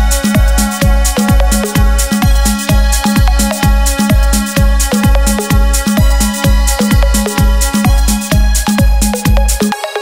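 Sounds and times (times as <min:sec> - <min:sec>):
kick drum beat: 0:00.0 - 0:09.8
electronic dance music: 0:00.0 - 0:10.0
hi-hat cymbals: 0:00.0 - 0:10.0.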